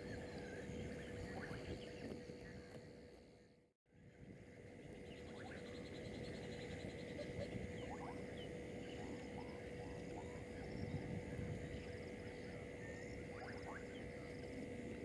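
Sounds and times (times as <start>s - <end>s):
frogs chirping: 0.0s - 2.7s, 4.8s - 15.0s
steady hum: 0.0s - 15.0s.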